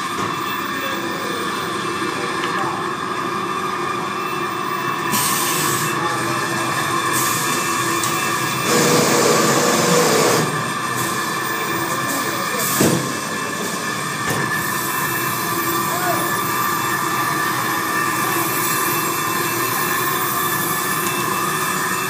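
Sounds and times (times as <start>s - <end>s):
machine whirring with steady tones: 0.0s - 22.0s.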